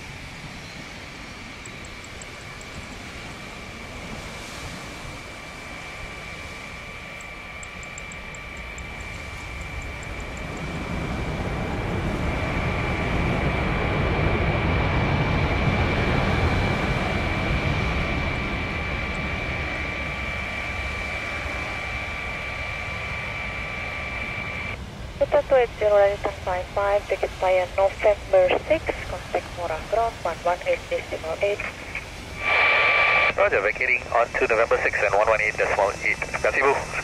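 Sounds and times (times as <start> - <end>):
jet engines rumbling: 0.0 - 37.0
high whine: 5.0 - 37.0.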